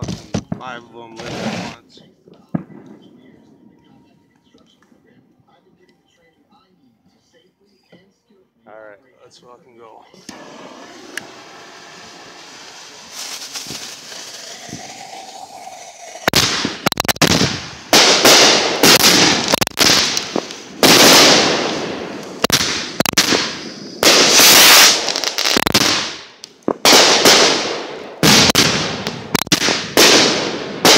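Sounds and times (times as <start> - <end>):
fireworks banging: 0.0 - 5.2, 10.2 - 30.9.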